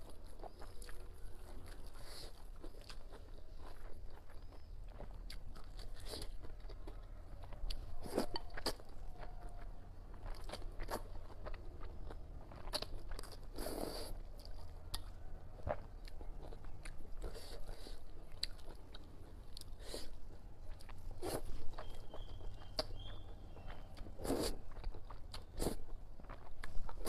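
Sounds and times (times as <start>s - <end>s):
person chewing: 0.0s - 27.0s.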